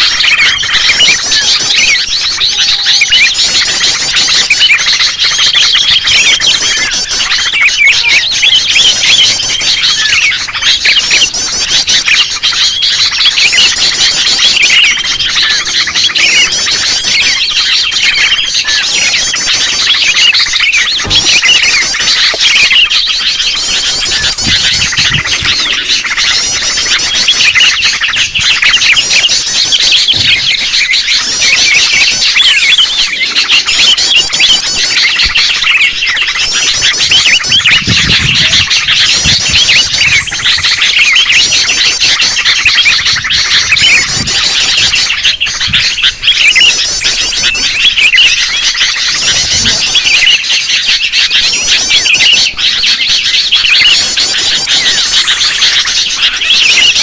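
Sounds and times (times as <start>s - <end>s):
flock of bulbuls chattering: 0.0s - 57.0s.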